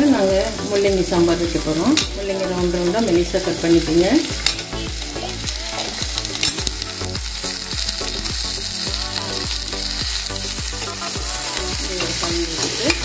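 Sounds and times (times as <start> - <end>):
vegetables sizzling in oil: 0.0 - 13.0
ladle stirring in pot: 0.5 - 13.0.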